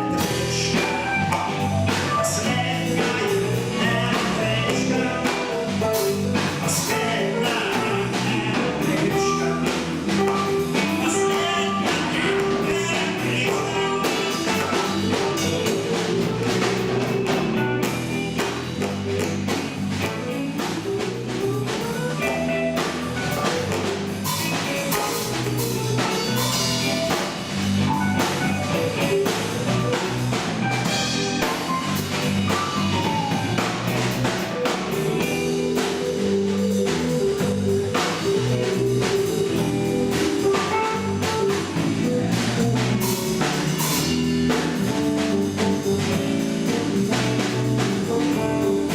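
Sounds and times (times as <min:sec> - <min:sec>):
band playing instrumental: 0:00.0 - 0:48.9
drum kit beat: 0:00.0 - 0:48.9
guitar: 0:00.0 - 0:48.9.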